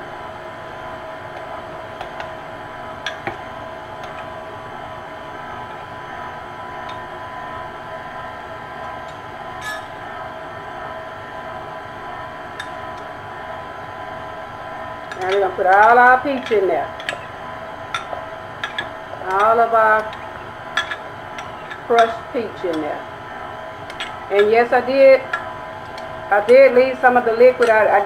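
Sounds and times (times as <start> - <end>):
stand mixer motor whining: 0.8 - 28.0.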